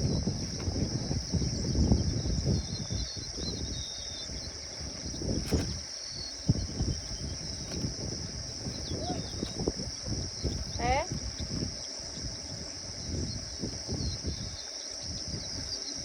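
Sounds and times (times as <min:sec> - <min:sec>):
insects trilling: 0:00.0 - 0:16.0
faint chirps: 0:01.6 - 0:16.0.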